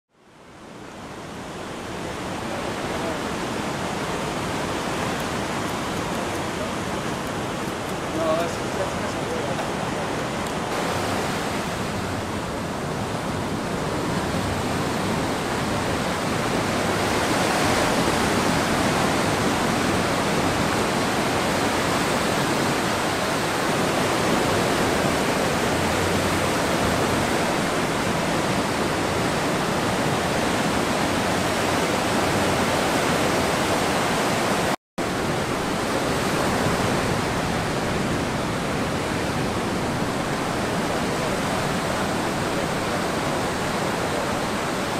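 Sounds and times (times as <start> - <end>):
ocean surf washing up shore: 0.4 - 44.9.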